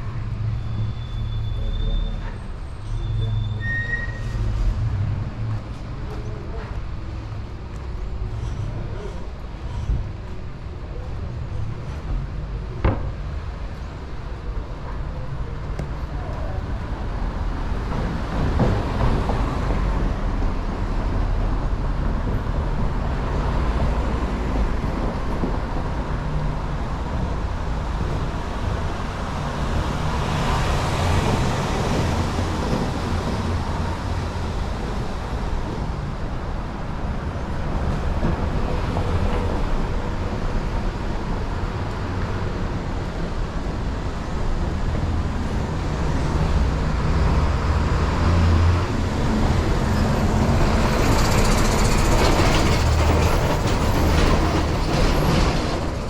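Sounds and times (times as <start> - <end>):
low rumble of traffic: 0.0 - 56.0.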